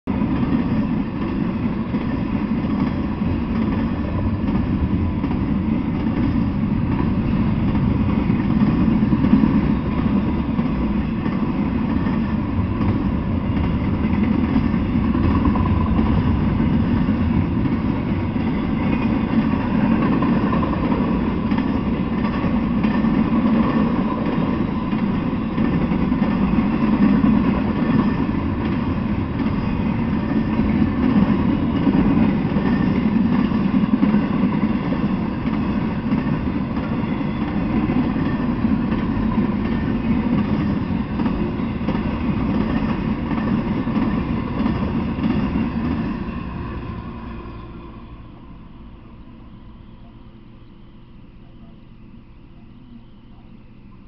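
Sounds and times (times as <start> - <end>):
freight train wheels rolling on rails: 0.1 - 54.0.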